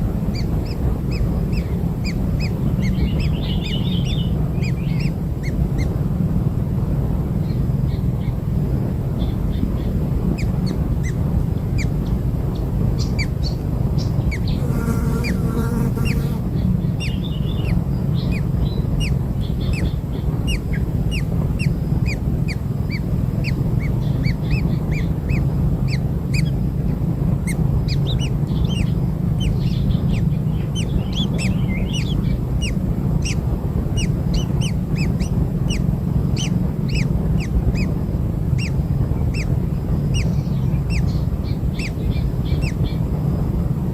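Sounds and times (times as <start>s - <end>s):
low rumble: 0.0s - 43.9s
baby birds chirping: 0.3s - 5.9s, 10.3s - 26.6s, 27.4s - 43.1s.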